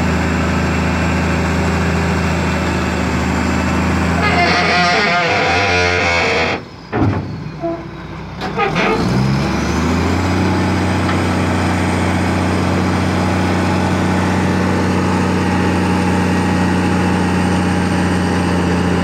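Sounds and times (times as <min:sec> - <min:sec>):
truck diesel engine humming: 0:00.0 - 0:19.0.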